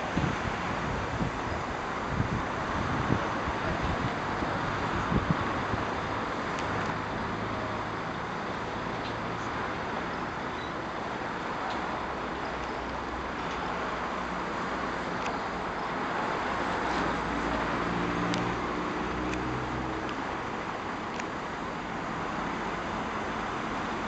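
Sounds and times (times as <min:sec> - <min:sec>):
distant city traffic hum: 0:00.0 - 0:24.0.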